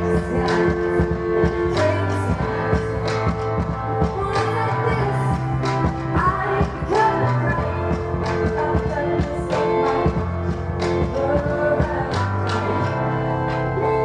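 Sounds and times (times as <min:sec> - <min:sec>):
live rock band: 0:00.0 - 0:14.0
woman singing: 0:00.0 - 0:14.0.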